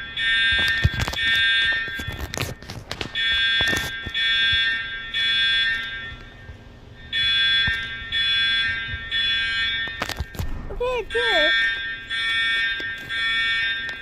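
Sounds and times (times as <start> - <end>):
fire alarm sounder tones: 0.0 - 14.0.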